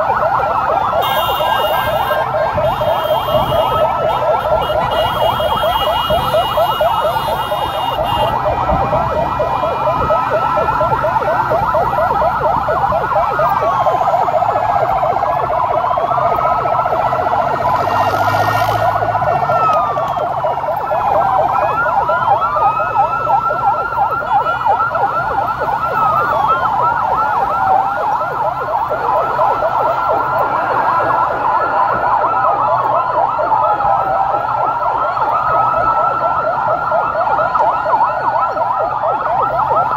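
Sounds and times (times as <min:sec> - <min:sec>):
siren fast yelp: 0:00.0 - 0:39.9
sirens wailing: 0:00.0 - 0:39.9.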